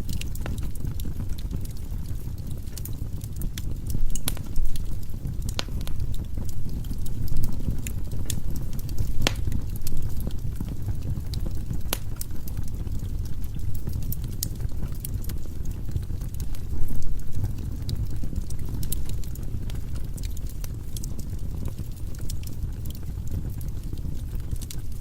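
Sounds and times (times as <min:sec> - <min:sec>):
logs crackling and popping: 0:00.0 - 0:25.0
low rumble of flame: 0:00.0 - 0:25.0.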